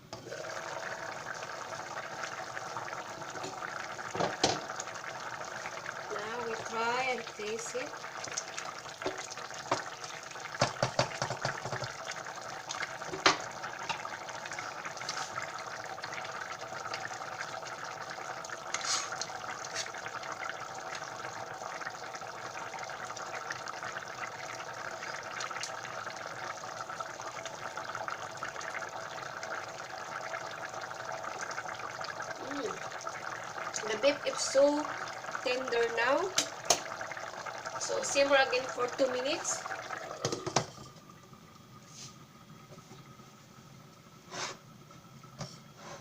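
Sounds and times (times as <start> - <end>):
pot simmering bubbling: 0.0 - 46.0.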